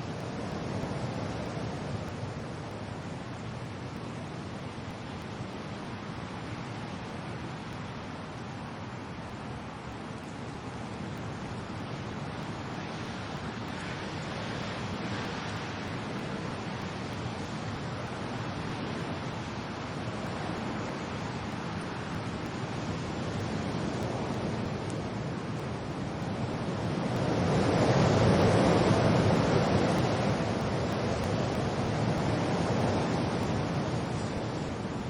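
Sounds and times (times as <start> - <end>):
rain: 0.0 - 35.0
wind: 0.0 - 35.0.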